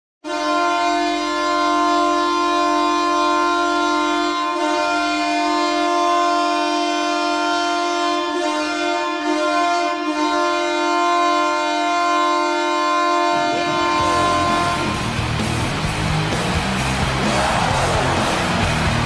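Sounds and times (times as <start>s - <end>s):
deep goal horn blast: 0.2s - 19.0s.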